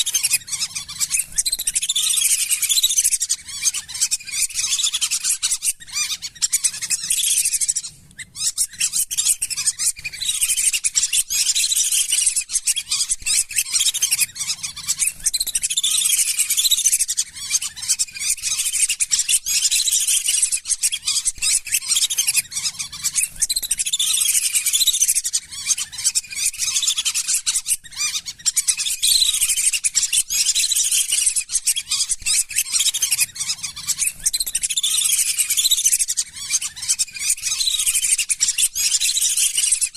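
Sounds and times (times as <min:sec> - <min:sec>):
ducks whistling calls: 0:00.0 - 0:39.9.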